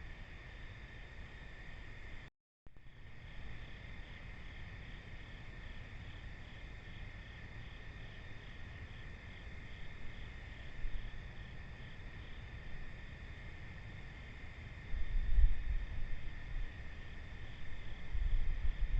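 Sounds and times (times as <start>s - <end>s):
crickets and katydids trilling: 2.8s - 18.9s
pulsing insect call: 2.8s - 18.9s.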